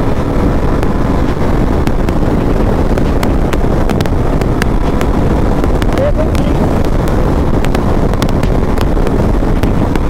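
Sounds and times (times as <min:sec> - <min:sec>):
motorcycle engine: 0:00.0 - 0:10.0
road noise: 0:00.0 - 0:10.0
wind rushing over microphone: 0:00.0 - 0:10.0.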